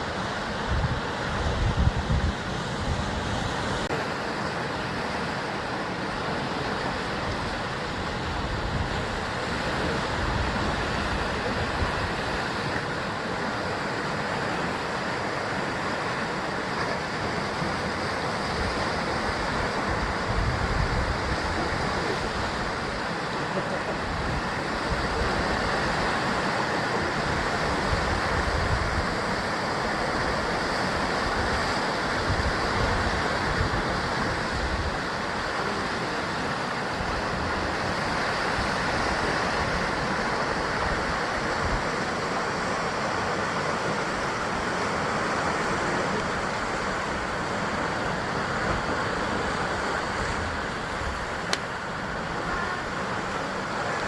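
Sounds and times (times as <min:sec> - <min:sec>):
wind rumble on microphone: 0:00.0 - 0:04.0, 0:06.1 - 0:54.0
surf washing on rocks: 0:00.0 - 0:54.0.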